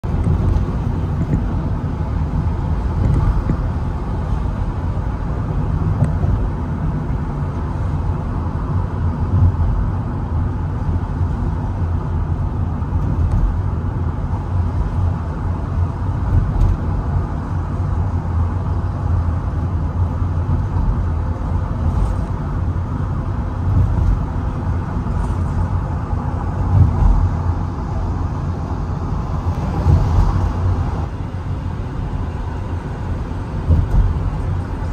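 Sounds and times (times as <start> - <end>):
car tyres and engine rumble: 0.0 - 34.9.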